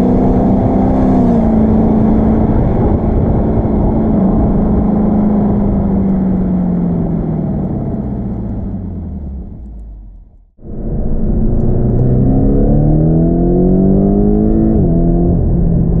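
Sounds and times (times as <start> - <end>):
sports car engine: 0.0 - 16.0.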